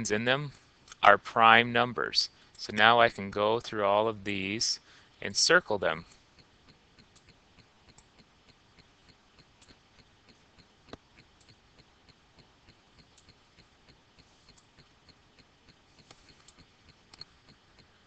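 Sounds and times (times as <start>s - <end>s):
faint regular ticking: 0.0s - 18.0s.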